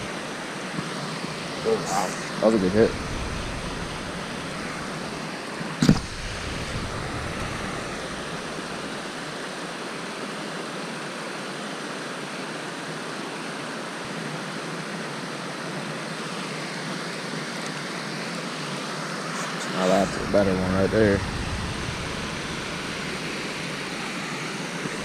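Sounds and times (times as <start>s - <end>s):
water rushing through spillway: 0.0s - 25.0s.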